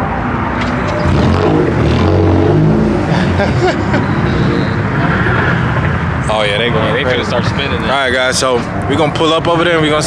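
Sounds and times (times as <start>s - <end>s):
car engine revving: 0.3s - 8.9s.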